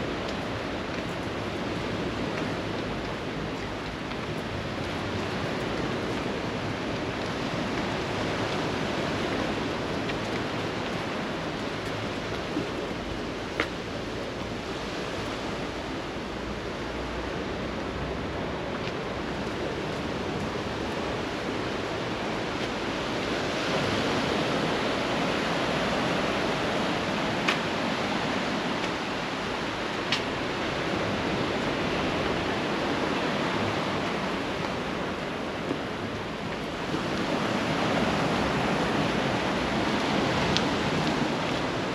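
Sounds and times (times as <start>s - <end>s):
sea surf washing onto beach: 0.0s - 41.9s.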